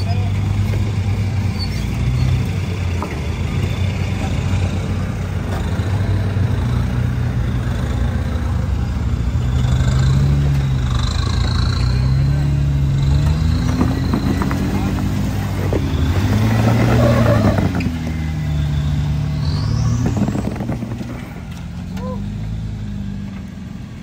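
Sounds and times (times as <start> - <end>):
engine working under load: 0.0 - 24.0.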